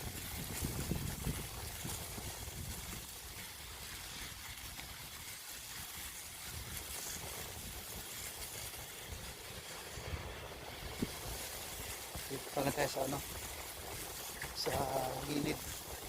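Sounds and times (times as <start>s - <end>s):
bicycle tyres hissing on snow: 0.0s - 16.0s.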